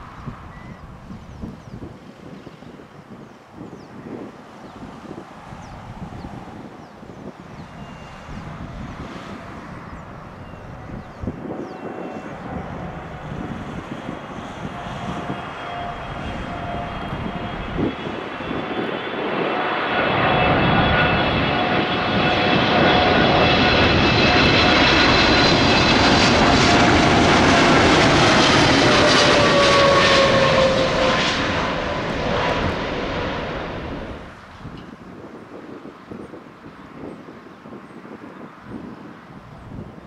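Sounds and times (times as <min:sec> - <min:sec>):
jet engine whine: 0:00.0 - 0:40.0.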